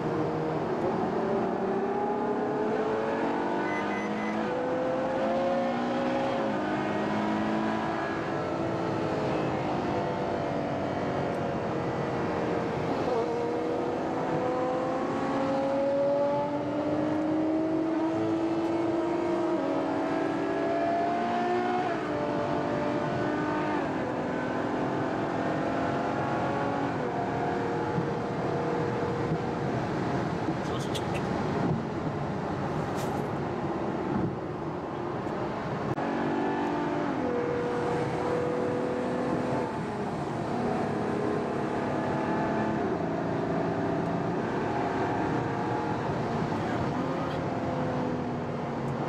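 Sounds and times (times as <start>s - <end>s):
car engine revving through upshifts: 0.0s - 31.8s, 35.3s - 49.0s.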